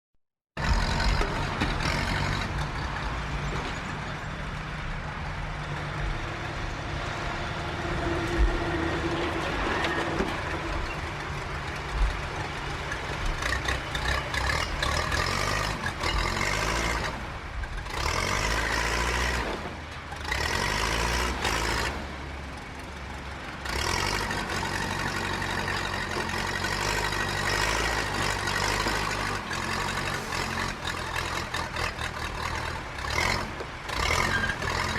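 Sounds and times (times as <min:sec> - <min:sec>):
bulldozer diesel engine running: 0:00.6 - 0:34.9.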